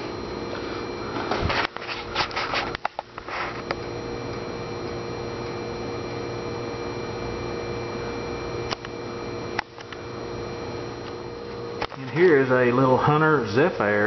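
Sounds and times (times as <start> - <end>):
desk fan motor humming: 0.0 - 14.0.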